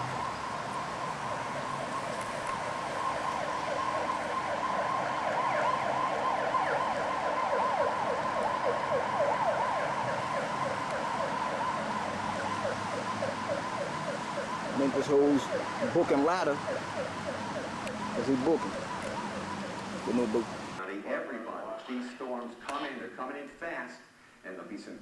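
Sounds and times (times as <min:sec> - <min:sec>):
emergency vehicle siren yelping: 0:00.0 - 0:20.8.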